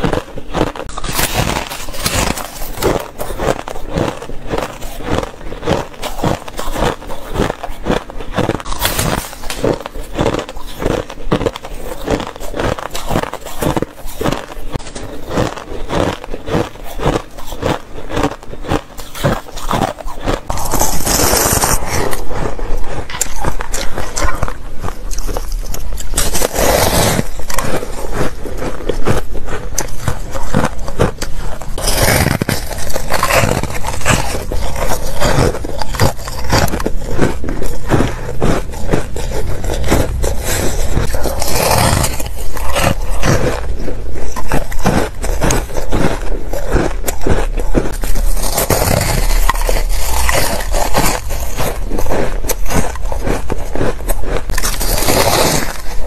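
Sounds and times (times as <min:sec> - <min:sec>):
biting into ice block: 0:00.0 - 0:56.0
chewing shaved ice crunches: 0:00.0 - 0:56.0.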